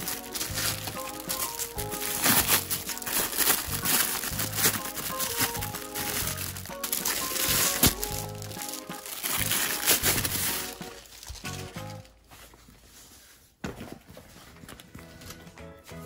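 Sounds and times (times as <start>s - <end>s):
background music: 0.0s - 12.2s, 14.8s - 16.0s
plastic wrapping crinkling: 0.0s - 15.5s.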